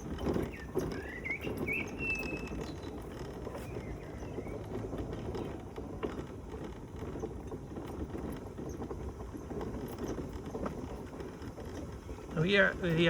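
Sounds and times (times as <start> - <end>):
mobility scooter rumbling along: 0.0 - 13.0
small clicks and rattles: 0.0 - 13.0.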